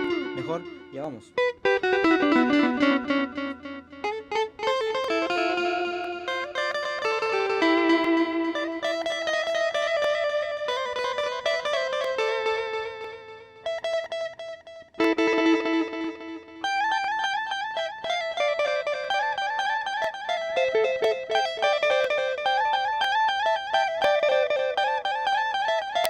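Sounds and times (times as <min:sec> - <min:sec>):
electric guitar melody with delay: 0:00.0 - 0:26.0.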